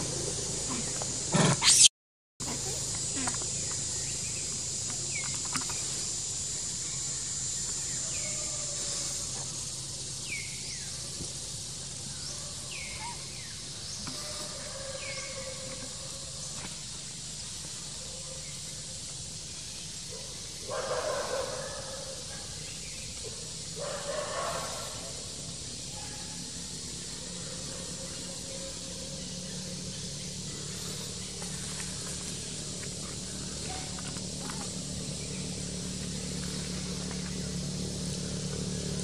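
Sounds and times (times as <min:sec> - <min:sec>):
high insect hiss: 0:00.0 - 0:39.0.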